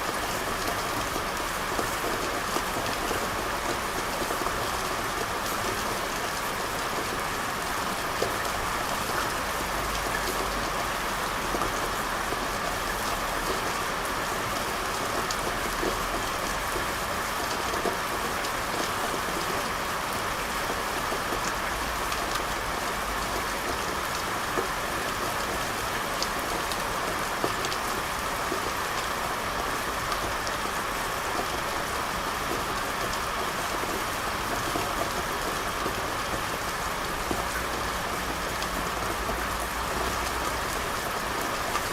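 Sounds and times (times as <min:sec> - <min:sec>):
rain falling on a street: 0:00.0 - 0:41.9.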